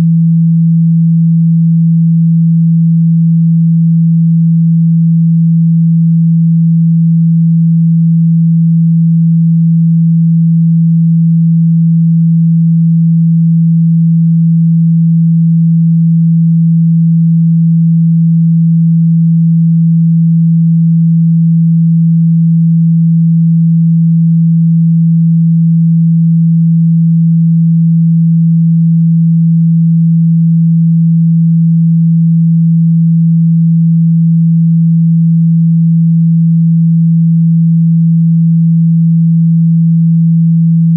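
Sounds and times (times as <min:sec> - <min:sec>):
low sine-wave tone: 0:00.0 - 0:40.9.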